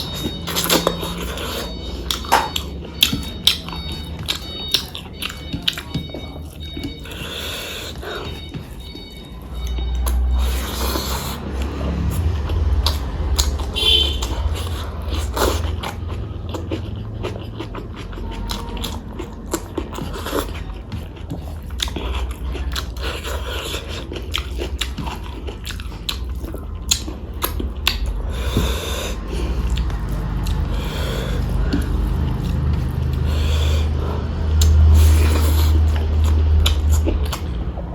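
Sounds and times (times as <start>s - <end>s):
person chewing and biting: 0.0s - 37.9s.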